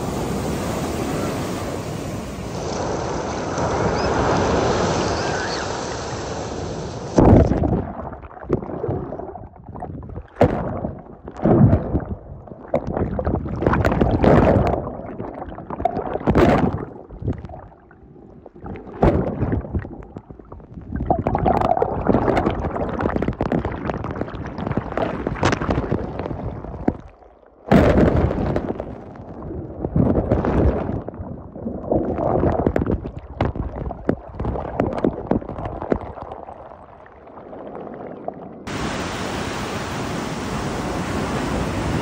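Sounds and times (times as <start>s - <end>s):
muffled water sloshing: 7.0s - 42.0s.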